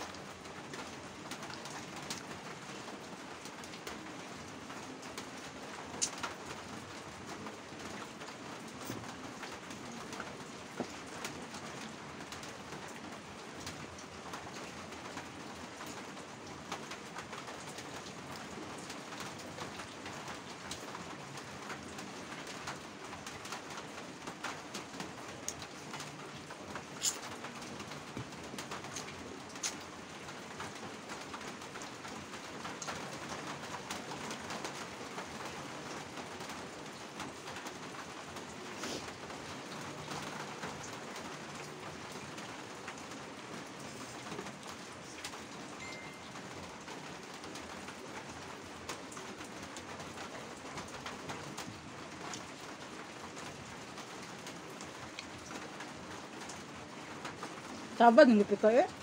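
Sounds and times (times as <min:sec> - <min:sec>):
rain hiss: 0:00.0 - 0:59.0
steady patter of noise: 0:00.0 - 0:59.0.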